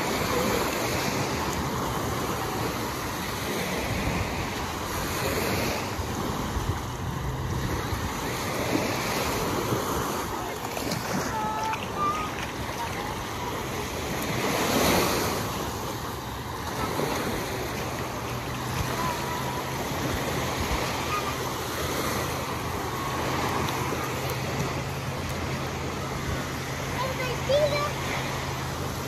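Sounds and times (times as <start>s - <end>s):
small waves breaking on sand: 0.0s - 29.0s.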